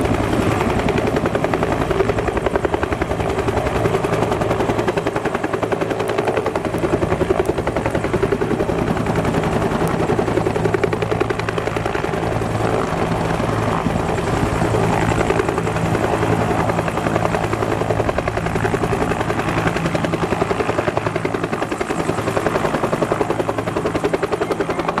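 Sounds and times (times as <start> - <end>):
helicopter rotor chopping: 0.0 - 25.0.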